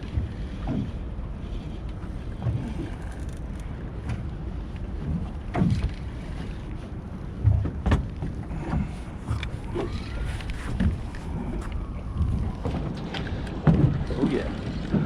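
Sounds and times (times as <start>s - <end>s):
water rumbling around boat: 0.0s - 15.0s
wind buffeting microphone: 0.0s - 15.0s.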